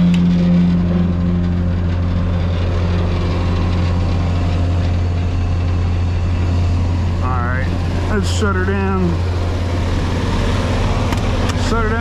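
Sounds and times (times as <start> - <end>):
truck engine and air blower drone: 0.0 - 12.0.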